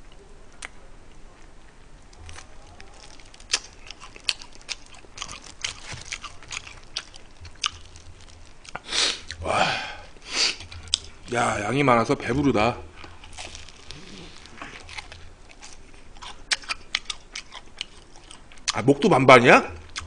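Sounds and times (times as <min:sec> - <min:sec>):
chewing crisp fried chicken: 0:00.0 - 0:09.5, 0:10.4 - 0:11.3, 0:12.3 - 0:19.1, 0:19.8 - 0:20.0.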